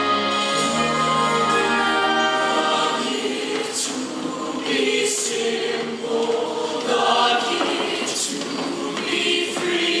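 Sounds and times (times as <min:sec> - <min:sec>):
choir singing: 0:00.0 - 0:10.0.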